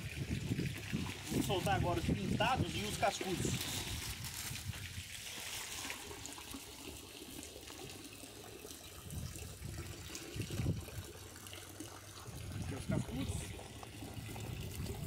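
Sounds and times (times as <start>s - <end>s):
water splashing: 0.0s - 15.0s
water trickling and sloshing: 0.0s - 15.0s.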